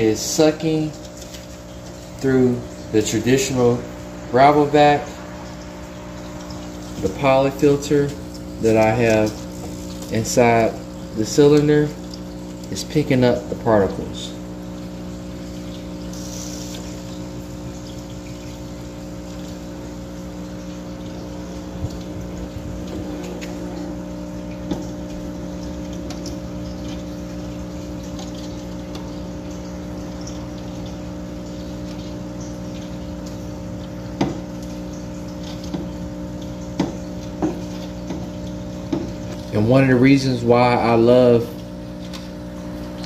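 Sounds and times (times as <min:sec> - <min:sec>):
aquarium pump humming: 0:00.0 - 0:43.0
moving water: 0:00.0 - 0:43.0.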